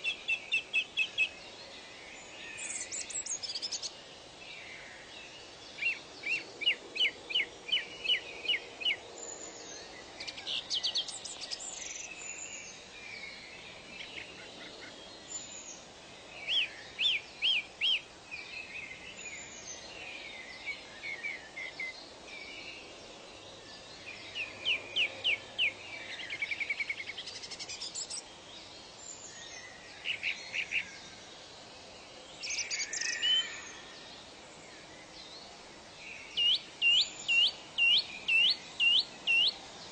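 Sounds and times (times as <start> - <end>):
background hiss: 0.0 - 39.9
birds chirping and trilling: 0.0 - 39.9.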